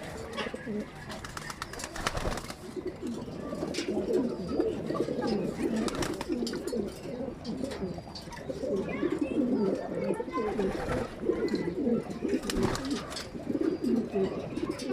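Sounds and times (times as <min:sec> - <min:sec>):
pigeons cooing: 0:00.0 - 0:14.9.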